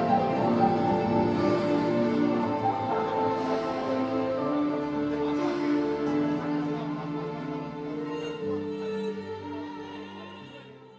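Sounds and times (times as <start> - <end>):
music of long held notes: 0.0 - 10.9.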